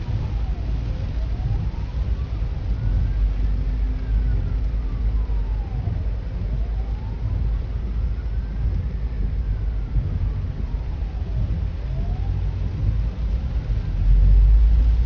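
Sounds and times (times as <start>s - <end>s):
ambulance siren wailing: 0.0s - 15.0s
car and traffic rumble: 0.0s - 15.0s.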